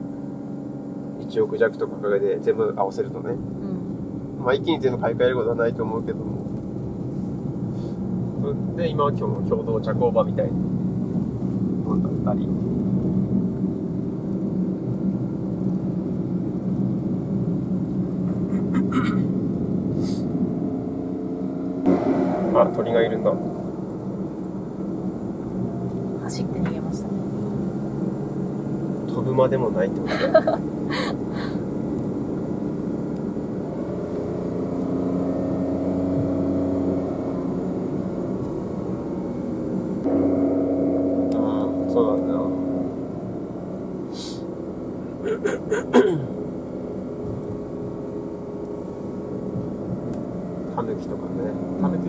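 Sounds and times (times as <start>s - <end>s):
car engine and road noise drone: 0.0s - 52.0s.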